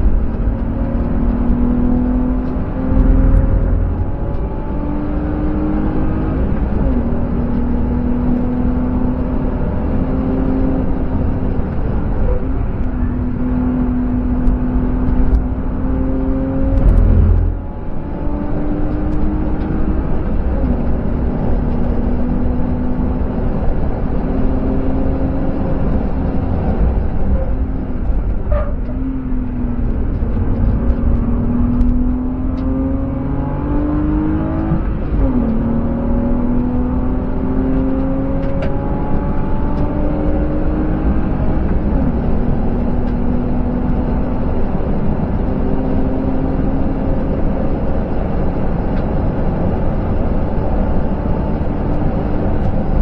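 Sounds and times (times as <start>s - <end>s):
car engine accelerating hard: 0.0s - 53.0s
road and wind noise: 0.0s - 53.0s.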